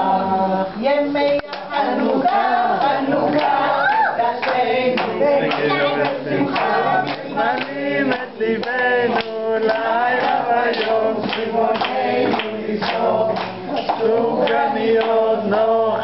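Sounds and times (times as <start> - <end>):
group singing a song: 0.0 - 16.0
hand clapping: 1.4 - 15.6.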